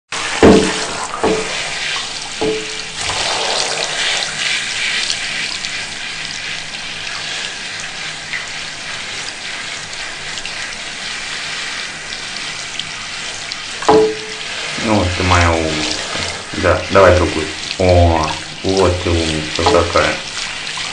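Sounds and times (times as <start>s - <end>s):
tap water running into sink: 0.1s - 20.9s.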